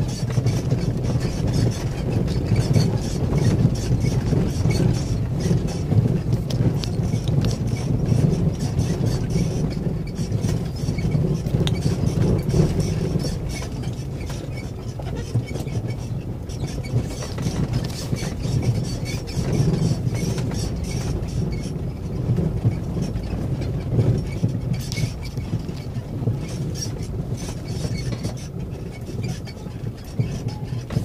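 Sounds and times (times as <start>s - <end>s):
engine low drone: 0.0s - 31.0s
vehicle body rattling: 0.0s - 31.0s.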